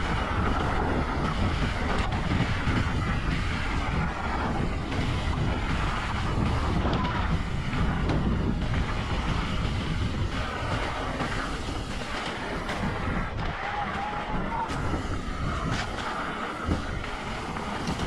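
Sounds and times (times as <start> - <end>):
bike rattling: 0.0 - 18.0
tyres rumbling on dirt: 0.0 - 18.0
wind buffeting microphone: 0.0 - 18.0.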